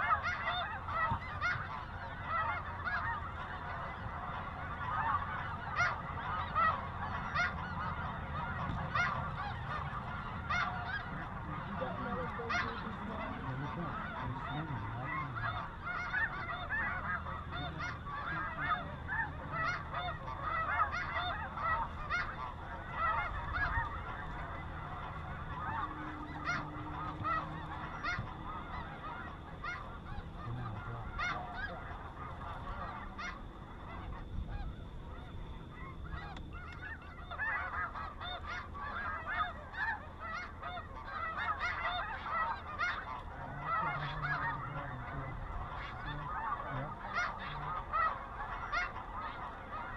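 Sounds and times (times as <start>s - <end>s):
snow geese calling: 0.0s - 49.9s.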